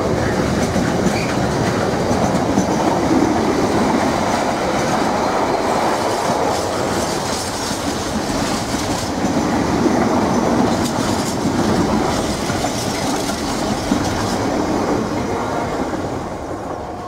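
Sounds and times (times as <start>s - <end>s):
train wheels clacking over rails: 0.0s - 17.0s.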